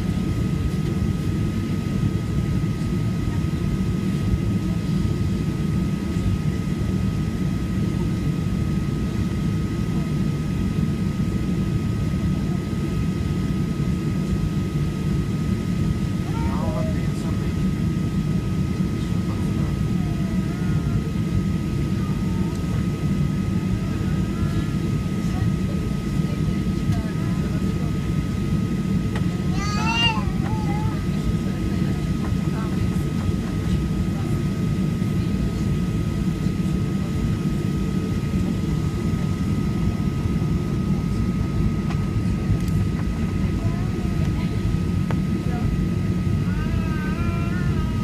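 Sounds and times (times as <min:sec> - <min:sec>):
aircraft engine and airflow rumble: 0:00.0 - 0:48.0.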